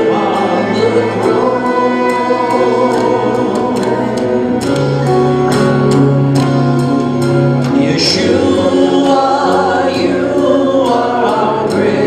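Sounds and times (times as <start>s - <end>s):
held chords: 0.0s - 12.0s.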